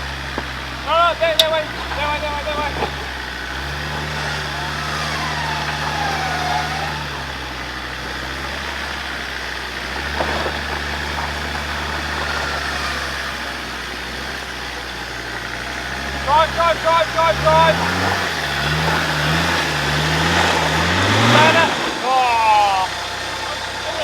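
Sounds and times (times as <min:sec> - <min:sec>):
engine idling drone: 0:00.0 - 0:24.0.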